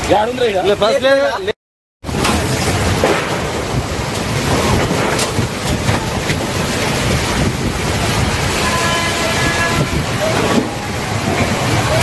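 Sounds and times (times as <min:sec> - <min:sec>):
heavy rain: 0:00.0 - 0:12.0
wind buffeting microphone: 0:02.1 - 0:12.0.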